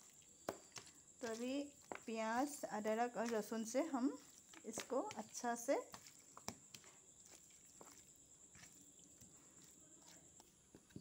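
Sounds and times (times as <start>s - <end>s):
hands squelching paste into chicken: 0.0s - 11.0s.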